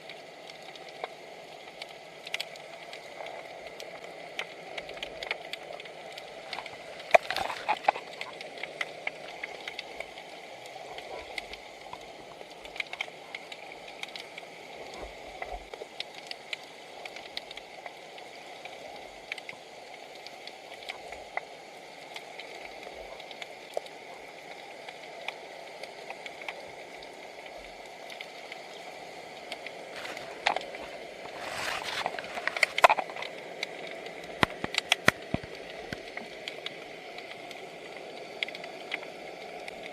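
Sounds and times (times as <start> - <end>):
rushing water: 0.0 - 39.9
sharp clicks and crackles: 0.0 - 39.9.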